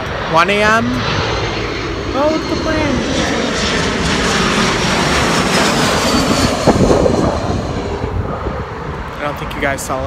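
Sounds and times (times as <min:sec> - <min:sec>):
high engine whine: 0:00.0 - 0:10.0
jet airliner engine roar: 0:00.0 - 0:10.0.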